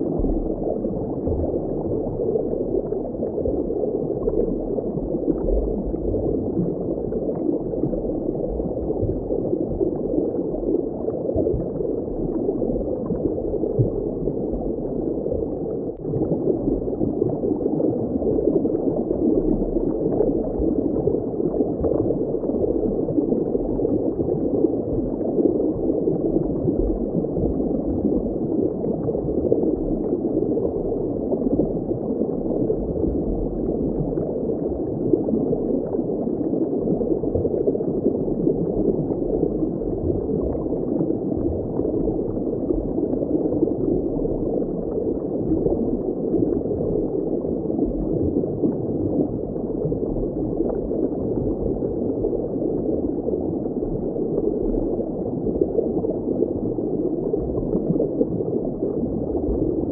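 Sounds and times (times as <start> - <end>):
muffled rushing water: 0.0 - 59.9.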